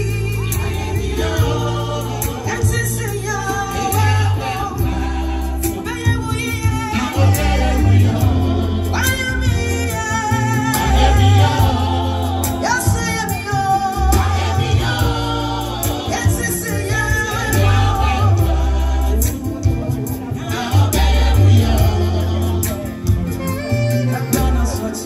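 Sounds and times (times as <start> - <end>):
bass line: 0.0 - 25.0
drums: 0.0 - 25.0
voices singing: 0.0 - 25.0.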